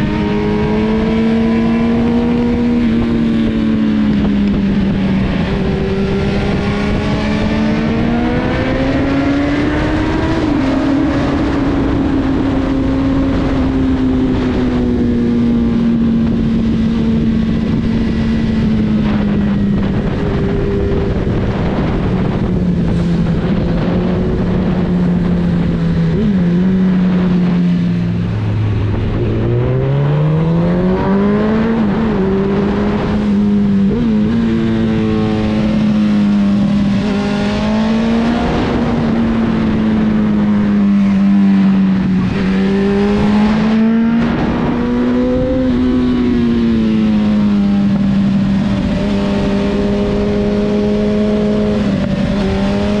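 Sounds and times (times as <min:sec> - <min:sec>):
motorcycle engine revving: 0:00.0 - 0:53.0
wind and road noise: 0:00.0 - 0:53.0.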